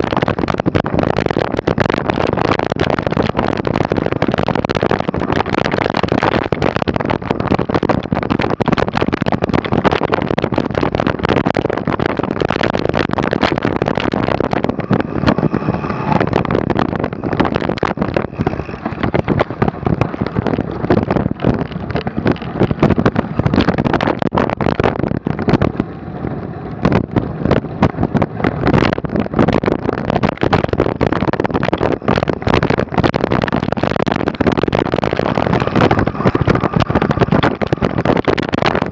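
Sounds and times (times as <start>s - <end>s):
bike rattling on rough trail: 0.0s - 38.9s
rushing noise: 0.0s - 38.9s.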